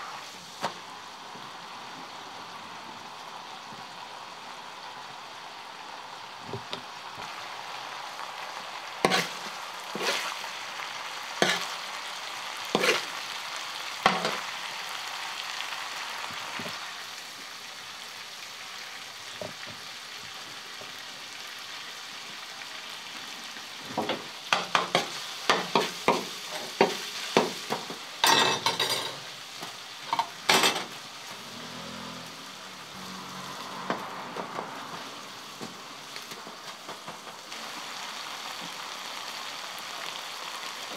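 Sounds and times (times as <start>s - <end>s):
meat sizzling in a pan: 0.0s - 40.9s.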